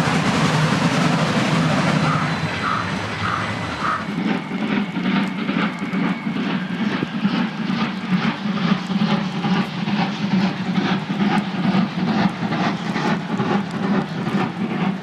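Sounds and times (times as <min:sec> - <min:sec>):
steady low rumble: 0:00.0 - 0:15.0
steam locomotive exhaust beats: 0:00.0 - 0:15.0.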